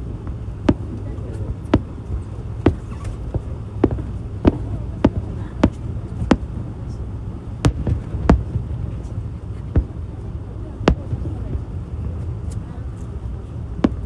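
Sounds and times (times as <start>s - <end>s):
fireworks bursting: 0.0s - 14.0s
low rumble: 0.0s - 14.0s.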